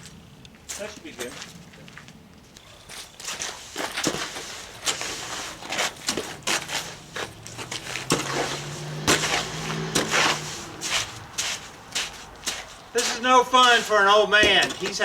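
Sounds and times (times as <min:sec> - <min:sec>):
tools scraping wet concrete: 0:02.9 - 0:15.0.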